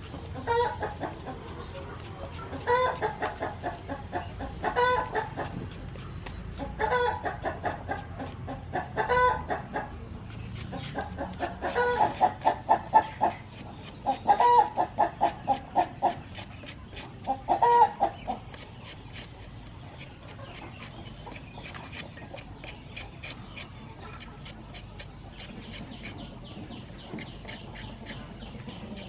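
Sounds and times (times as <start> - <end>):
knife peeling watermelon: 0.0 - 8.6, 10.2 - 29.0
chickens clucking: 0.0 - 29.0.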